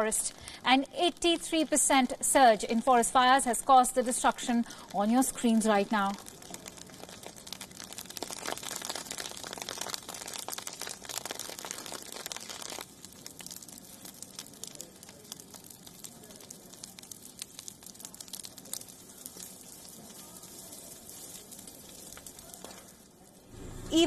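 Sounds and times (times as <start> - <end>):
burning vegetation crackling: 0.0 - 24.0.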